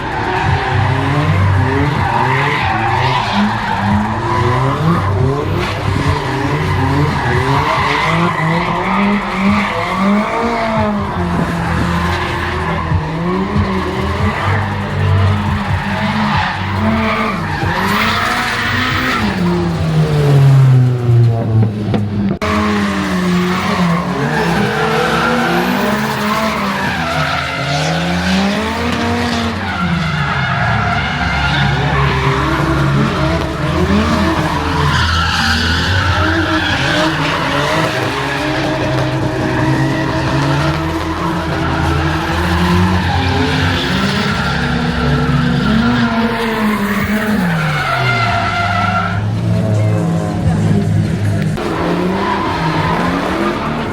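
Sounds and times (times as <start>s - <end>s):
car engines revving: 0.0s - 53.9s
tyres squealing and skidding: 0.0s - 53.9s.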